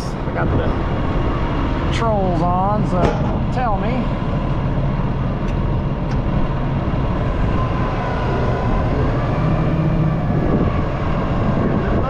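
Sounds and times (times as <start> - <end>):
excavator diesel engine running: 0.0 - 12.0
hydraulic whine: 0.0 - 12.0.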